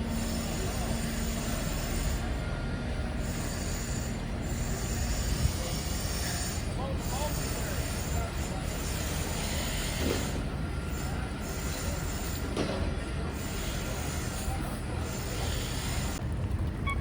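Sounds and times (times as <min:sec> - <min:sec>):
heavy vehicles rumbling: 0:00.0 - 0:17.0.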